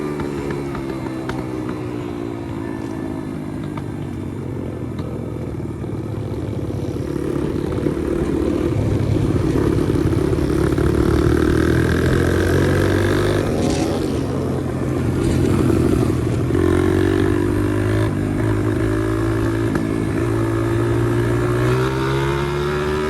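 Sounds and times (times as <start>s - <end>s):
small motorcycle engine accelerating: 0.0s - 23.0s.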